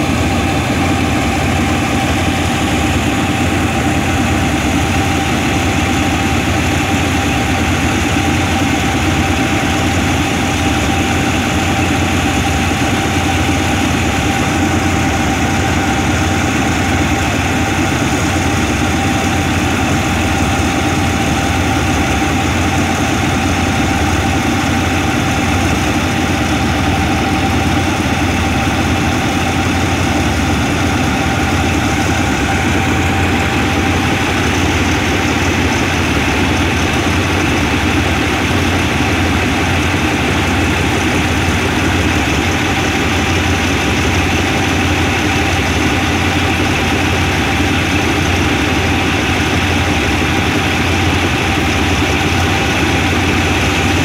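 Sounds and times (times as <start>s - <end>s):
locomotive engine idling: 0.0s - 54.0s
thin steady whine: 0.0s - 54.0s.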